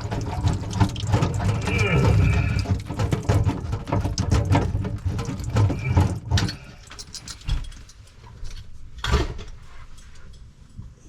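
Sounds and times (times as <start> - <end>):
metallic clicking and rattling: 0.0 - 9.2.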